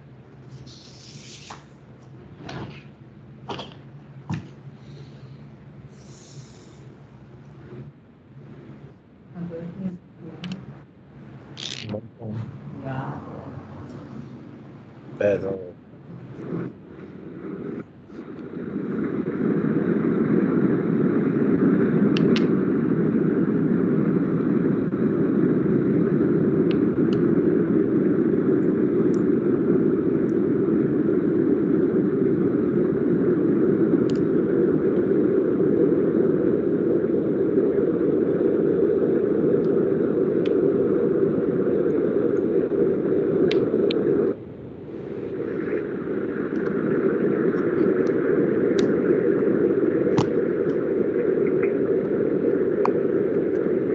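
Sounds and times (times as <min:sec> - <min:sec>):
steady rumbling noise: 0:00.0 - 0:53.9.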